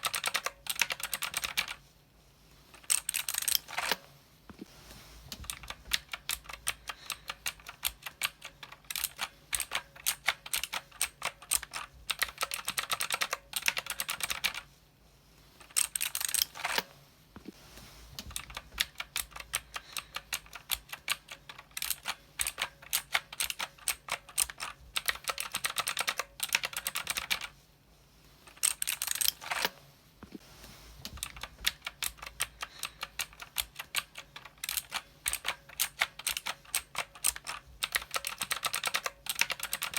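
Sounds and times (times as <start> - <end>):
fast typing on mechanical keyboard: 0.0 - 1.8, 2.8 - 4.0, 5.4 - 14.7, 15.6 - 16.8, 18.2 - 27.5, 28.5 - 29.7, 31.1 - 39.9.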